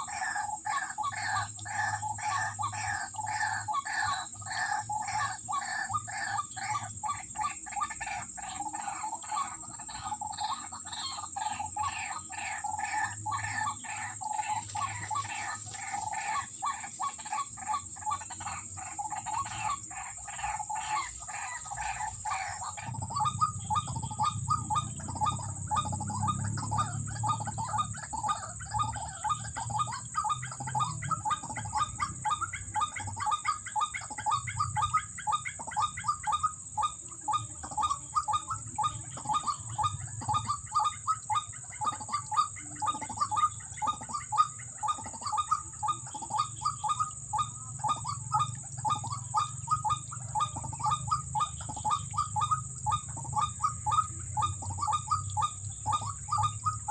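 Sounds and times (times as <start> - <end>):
waterhens croaking calls: 0.0 - 56.9.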